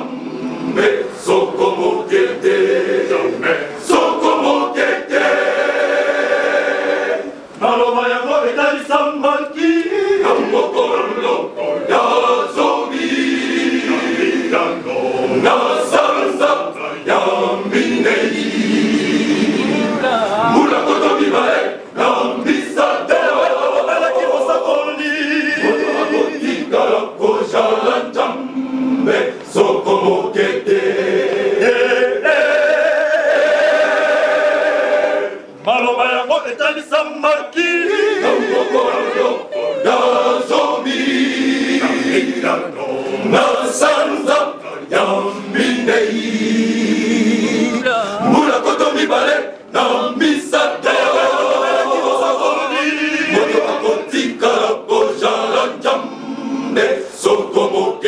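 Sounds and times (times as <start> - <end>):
men's choir singing a cappella: 0.0 - 58.0.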